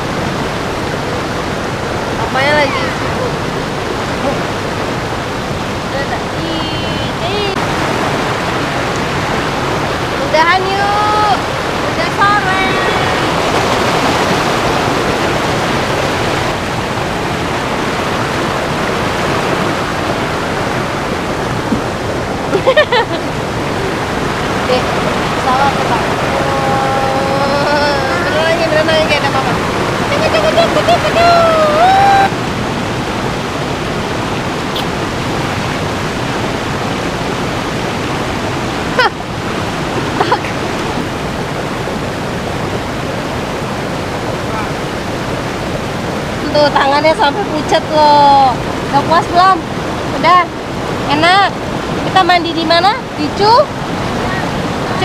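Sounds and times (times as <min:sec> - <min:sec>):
river water rushing over boulders: 0:00.0 - 0:55.0.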